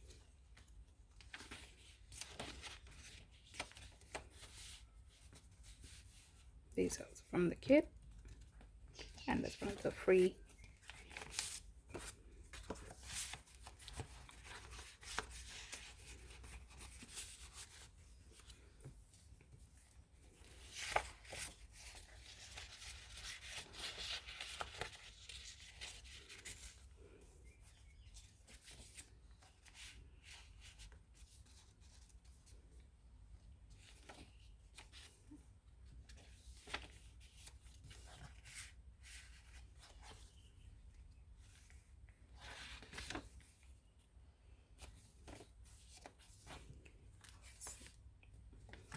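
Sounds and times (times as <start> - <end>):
paper rustling: 0.4 - 6.5, 8.0 - 32.6, 33.6 - 43.8, 44.8 - 48.9.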